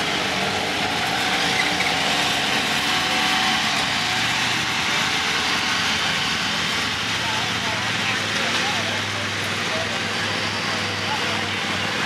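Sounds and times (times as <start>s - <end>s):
utility vehicle engines running: 0.0s - 12.0s.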